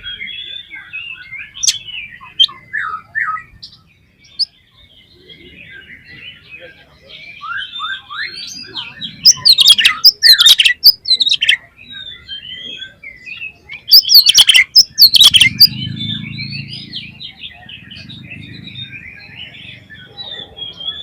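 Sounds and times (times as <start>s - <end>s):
bird singing warbling song: 0.0s - 21.0s.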